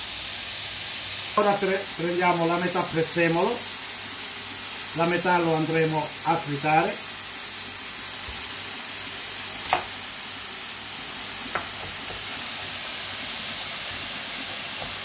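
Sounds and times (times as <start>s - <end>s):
mushrooms sizzling in a pan: 0.0s - 15.0s.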